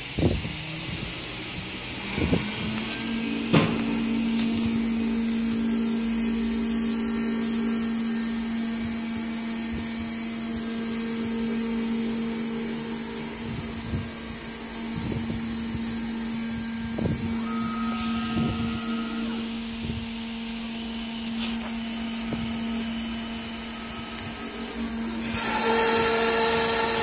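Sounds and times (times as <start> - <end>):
router spindle humming: 0.0 - 27.0.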